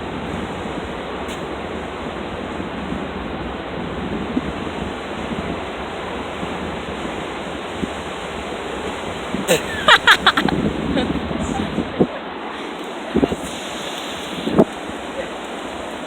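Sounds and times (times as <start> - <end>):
wind buffeting microphone: 0.0 - 12.2, 13.1 - 16.0
surf breaking on beach: 0.0 - 16.0.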